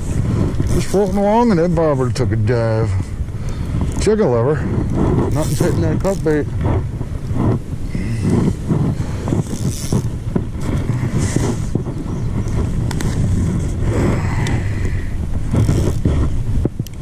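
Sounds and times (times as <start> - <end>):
faint clicks and rustles: 0.0 - 17.0
wind buffeting microphone: 0.0 - 17.0.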